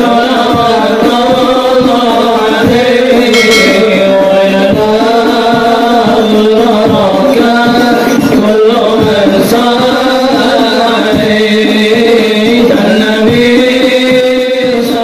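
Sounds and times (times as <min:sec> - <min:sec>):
frame drum: 0:00.2 - 0:14.8.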